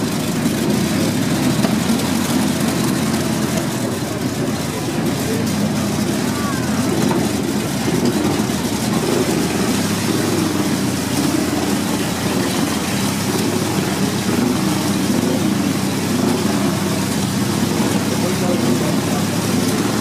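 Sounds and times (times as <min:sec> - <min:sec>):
racing car engine idling: 0:00.0 - 0:20.0.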